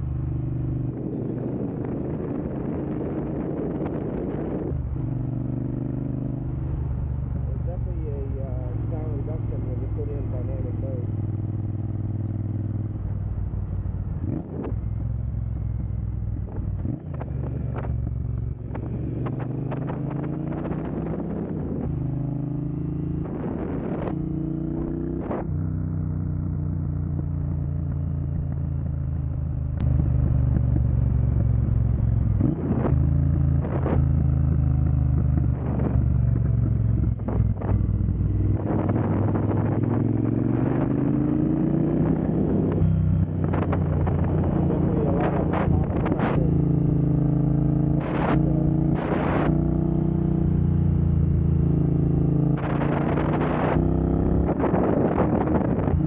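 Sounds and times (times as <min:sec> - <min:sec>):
motorcycle engine rumbling and revving: 0:00.0 - 0:56.0.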